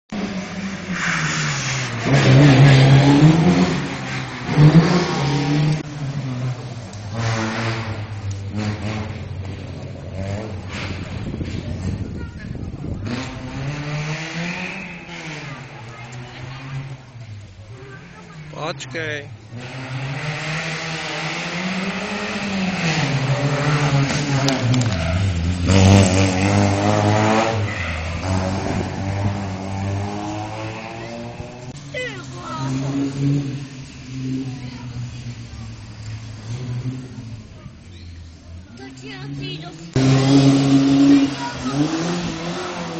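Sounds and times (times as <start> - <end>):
rally car engine revving: 0.1 - 42.9.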